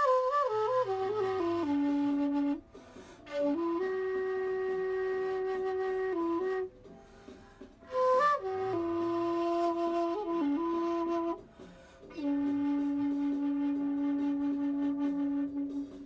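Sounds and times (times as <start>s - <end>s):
solo flute slow melody: 0.0s - 16.0s.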